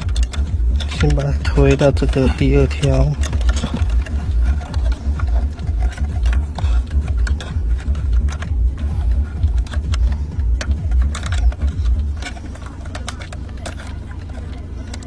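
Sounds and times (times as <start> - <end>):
plastic vent grille clicks and knocks: 0.0 - 15.0
steady low rumble: 0.0 - 15.0.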